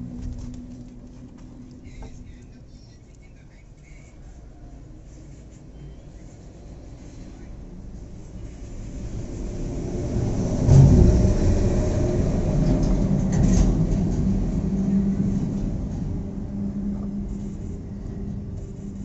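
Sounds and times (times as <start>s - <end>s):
steady hum: 0.0s - 19.0s
vehicle engine rumbling: 0.0s - 19.0s.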